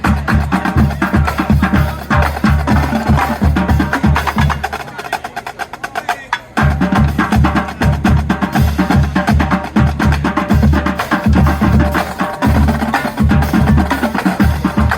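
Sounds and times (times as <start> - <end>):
snare drum rolls: 0.0 - 14.9.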